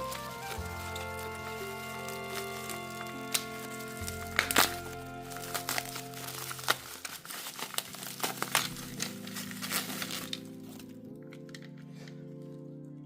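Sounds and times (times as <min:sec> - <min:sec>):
packaging crinkling: 0:00.0 - 0:12.3
background music: 0:00.0 - 0:13.0.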